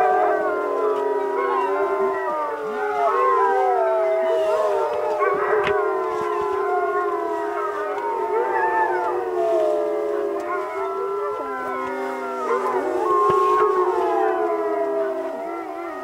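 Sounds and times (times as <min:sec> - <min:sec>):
dogs howling together: 0:00.0 - 0:16.0.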